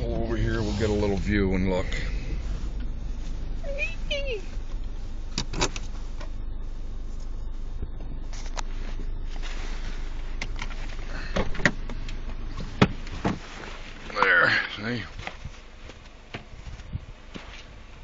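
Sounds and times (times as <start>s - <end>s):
car idling: 0.0s - 18.0s.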